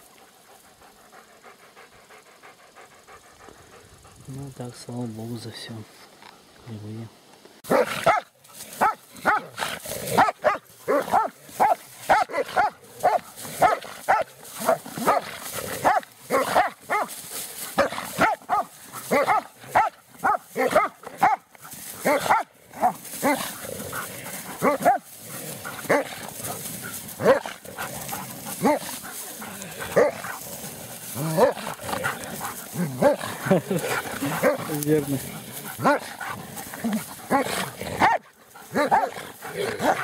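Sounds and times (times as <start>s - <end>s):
dogs barking in play: 7.6s - 40.0s.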